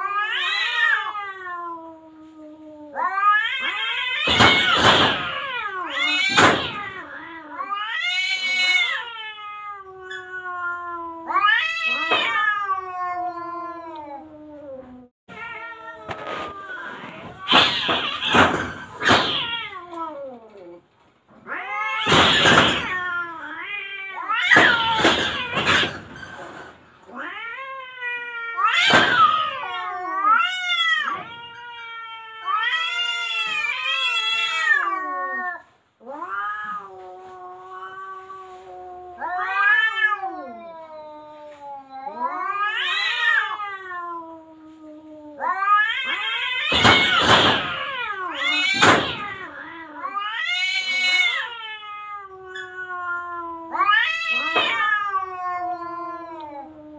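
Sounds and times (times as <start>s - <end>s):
cats hissing: 0.0s - 56.9s
cats yowling and growling: 0.0s - 56.9s.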